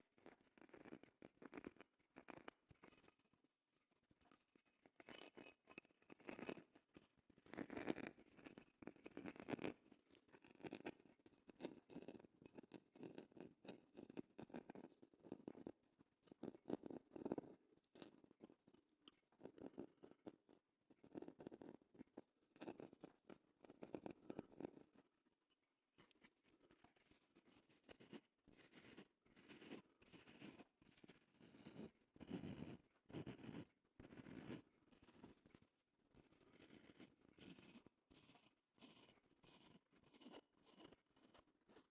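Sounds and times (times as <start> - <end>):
scratching and tapping on shell: 0.2 - 3.3, 4.2 - 35.6.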